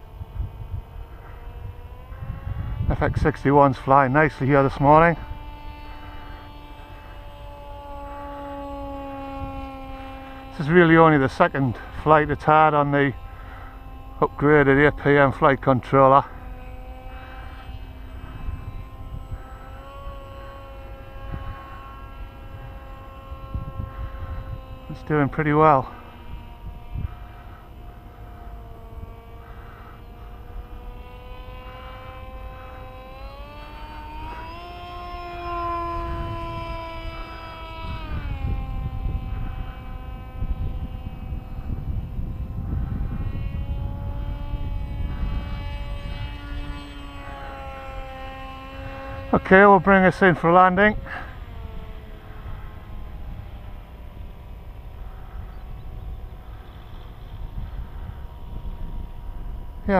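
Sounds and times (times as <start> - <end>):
distant electric motor and propeller: 0.0 - 59.9
wind rumble on microphone: 0.0 - 59.9.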